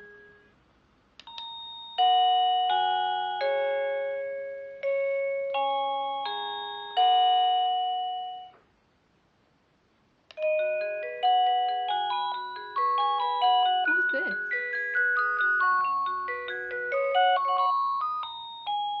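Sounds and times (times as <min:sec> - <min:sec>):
musical doorbell chime melody: 0:00.0 - 0:00.5, 0:01.2 - 0:08.6, 0:10.4 - 0:19.0.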